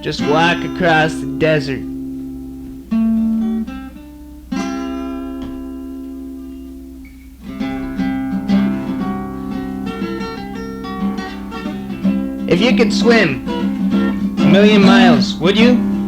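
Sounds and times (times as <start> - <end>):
acoustic guitar strumming: 0.0 - 16.0
low hum: 0.0 - 16.0.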